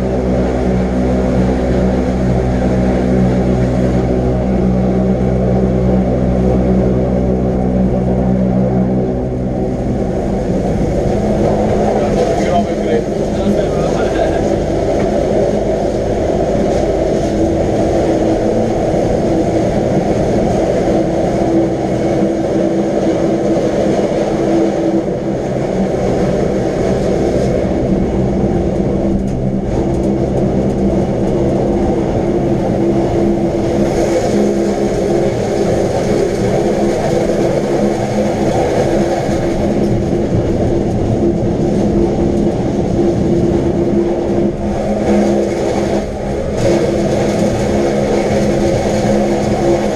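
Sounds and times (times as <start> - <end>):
train motor hum: 0.0 - 49.9
train rumble: 0.0 - 49.9.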